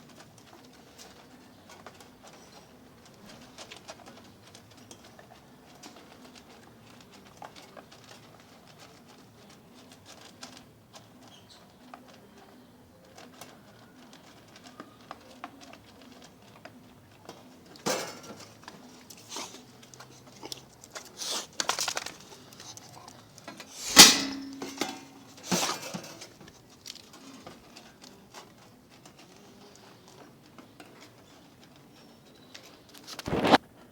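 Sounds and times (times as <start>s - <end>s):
kibble clattering on metal feeder: 0.0s - 33.6s.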